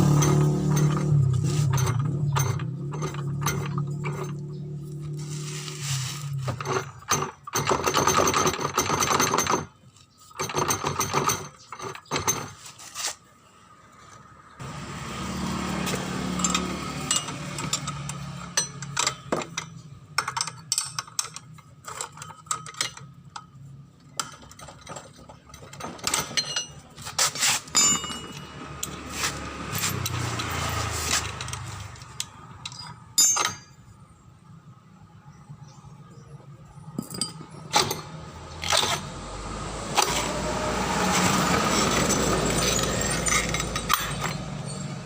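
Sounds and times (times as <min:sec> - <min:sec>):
metal tools clinking and rattling: 0:00.0 - 0:12.9, 0:15.8 - 0:34.0, 0:36.8 - 0:39.1, 0:41.2 - 0:45.0.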